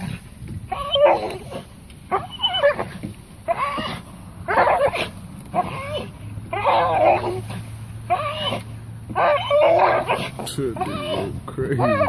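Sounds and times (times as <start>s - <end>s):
dog whining: 0.0s - 12.0s.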